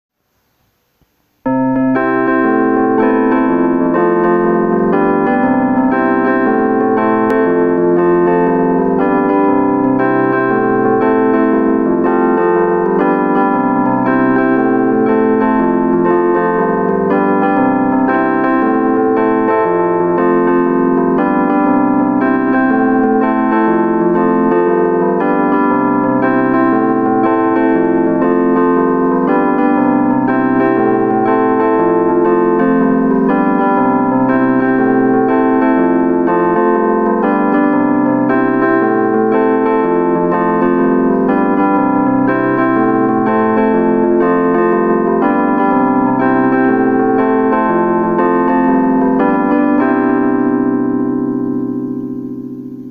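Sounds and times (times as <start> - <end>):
piano music: 1.4 - 52.9.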